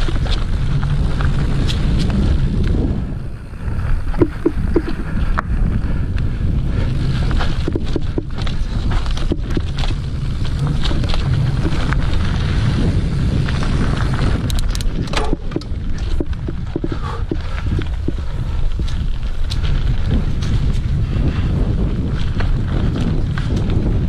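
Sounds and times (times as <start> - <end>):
bike clicks and knocks: 0.0 - 2.9, 4.0 - 6.3, 6.9 - 21.0, 21.9 - 24.0
tyres rumbling on dirt: 0.0 - 5.9, 6.5 - 24.0
wind buffeting microphone: 0.0 - 24.0.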